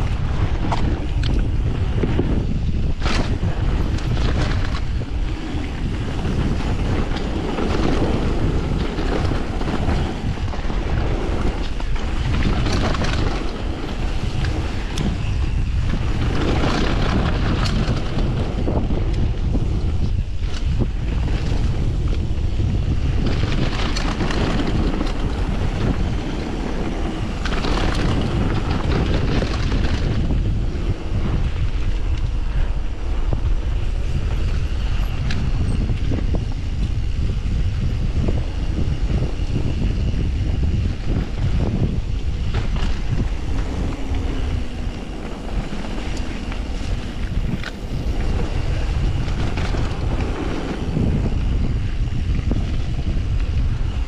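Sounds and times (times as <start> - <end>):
bike clicks and rattles: 0.0 - 54.0
wind buffeting microphone: 0.0 - 54.0.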